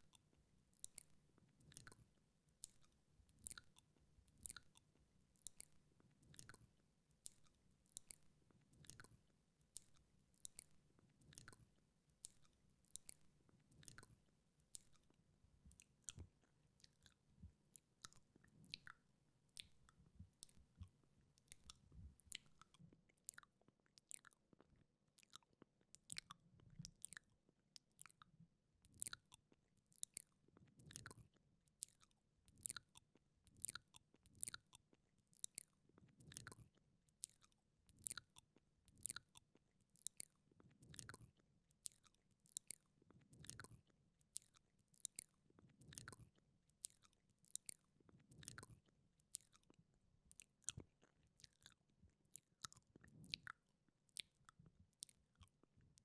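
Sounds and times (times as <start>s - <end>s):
tongue and lip clicks: 0.0s - 56.0s.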